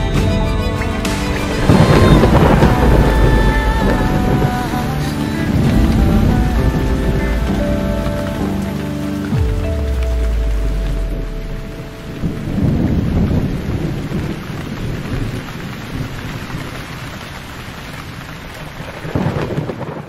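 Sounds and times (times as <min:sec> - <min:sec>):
steady rain: 0:00.0 - 0:20.0
thunder rolling: 0:00.9 - 0:16.7, 0:18.6 - 0:20.0.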